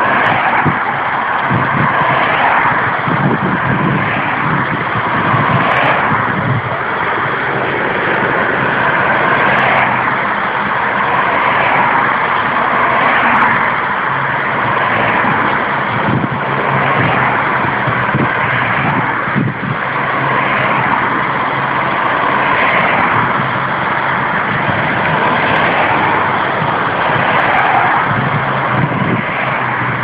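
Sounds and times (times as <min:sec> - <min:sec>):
cars driving past: 0:00.0 - 0:30.0.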